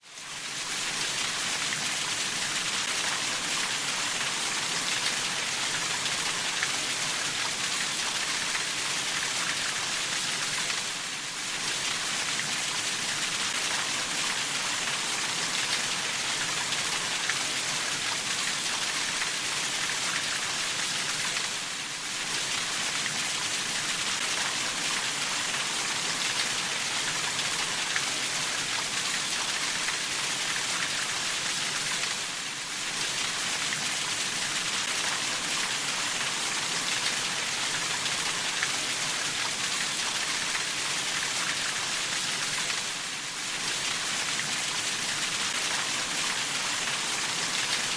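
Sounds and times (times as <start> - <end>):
steady rainfall: 0.0 - 47.9.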